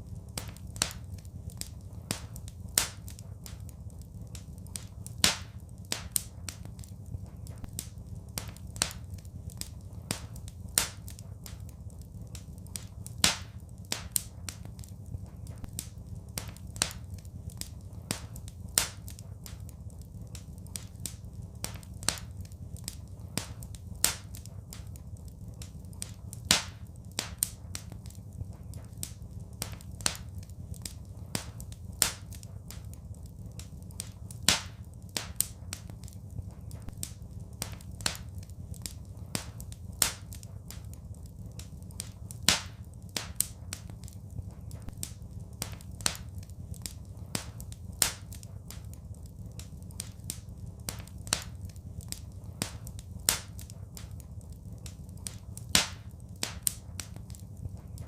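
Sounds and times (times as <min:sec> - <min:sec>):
low rumble: 0:00.0 - 0:55.6
wood fire crackling: 0:00.0 - 0:58.0.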